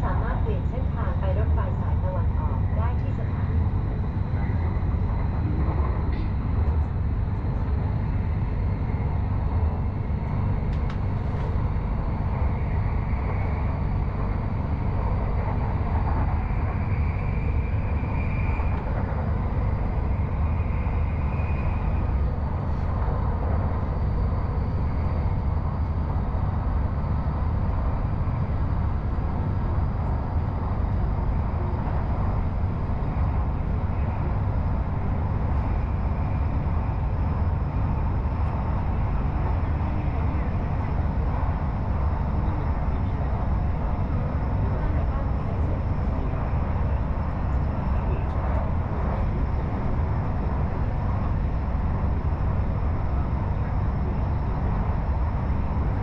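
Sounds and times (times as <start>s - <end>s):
faint high whine: 0.0s - 56.0s.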